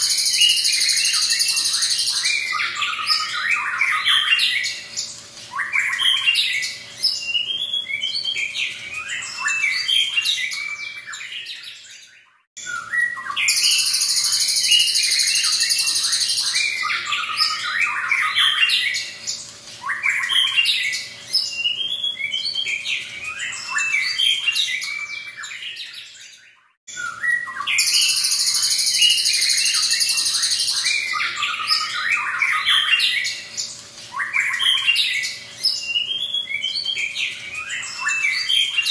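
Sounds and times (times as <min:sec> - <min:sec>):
bird singing whistled phrases: 0:00.0 - 0:04.8, 0:05.5 - 0:19.1, 0:19.8 - 0:33.4, 0:34.1 - 0:38.9.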